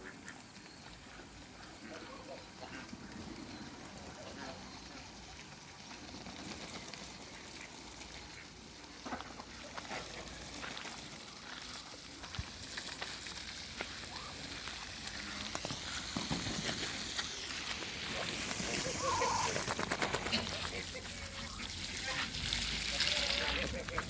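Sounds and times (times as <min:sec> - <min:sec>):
ducks dabbling in water: 0:00.0 - 0:24.0.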